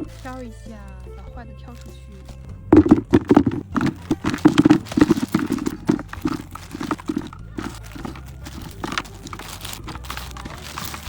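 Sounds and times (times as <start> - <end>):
cherries clattering in container: 0.0 - 11.0.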